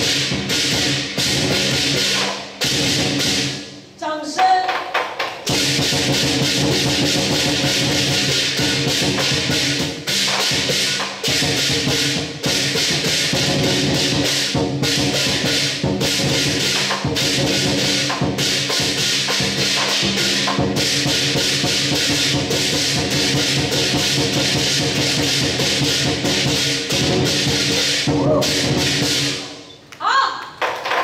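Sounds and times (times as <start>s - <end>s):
big drum beating: 0.0s - 3.7s, 5.2s - 29.5s
cymbals clashing: 0.0s - 29.7s.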